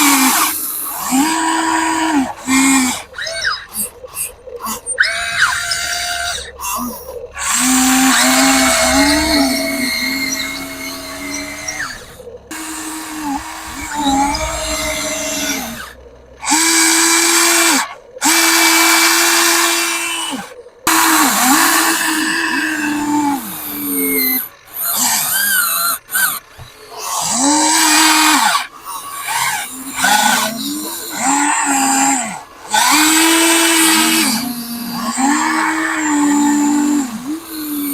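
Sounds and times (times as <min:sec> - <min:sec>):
electric motors whining: 0:00.0 - 0:37.9.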